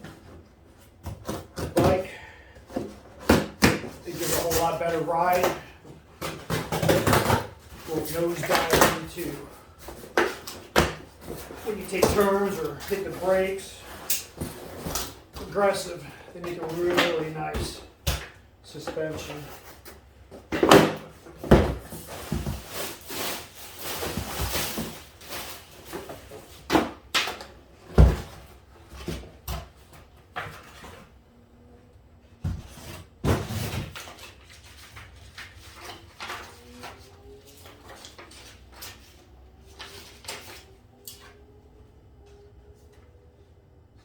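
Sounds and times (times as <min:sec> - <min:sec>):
parts and packaging handled: 0:00.0 - 0:44.0.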